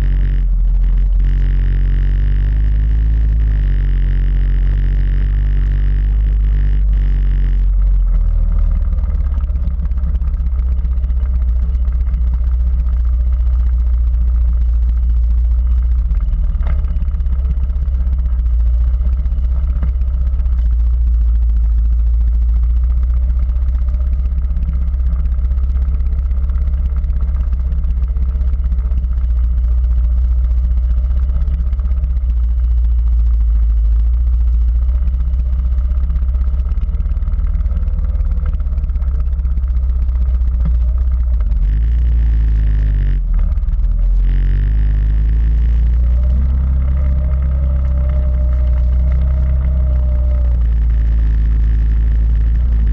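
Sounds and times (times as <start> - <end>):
quad bike engine rumbling: 0.0 - 52.9.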